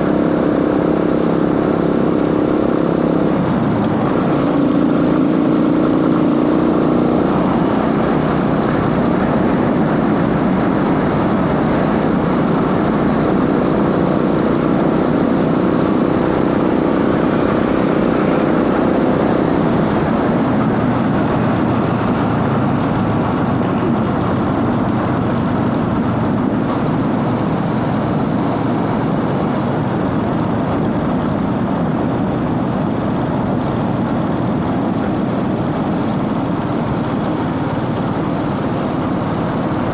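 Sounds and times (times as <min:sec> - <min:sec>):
motorcycle engine rumble: 0:00.0 - 0:39.9.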